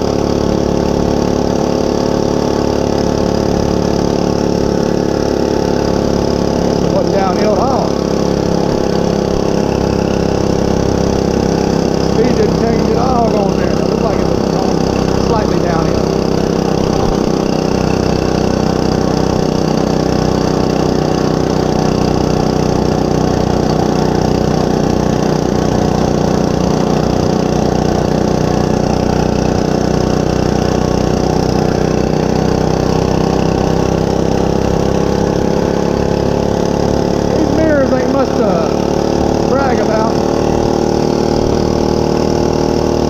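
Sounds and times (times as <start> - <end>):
mini bike engine running: 0.0 - 43.0.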